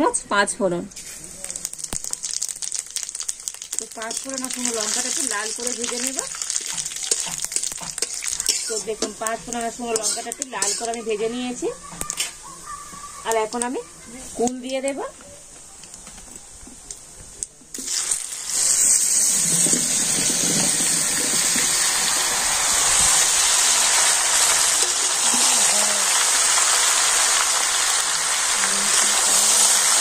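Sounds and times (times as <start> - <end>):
fruit sizzling in hot oil: 0.9 - 12.5, 13.1 - 15.1, 15.8 - 30.0.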